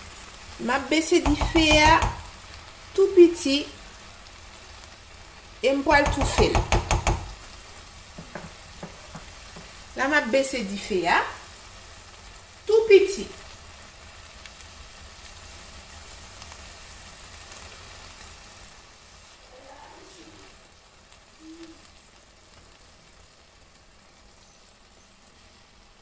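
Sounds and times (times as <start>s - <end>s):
rice sizzling in a pot: 0.0s - 26.0s.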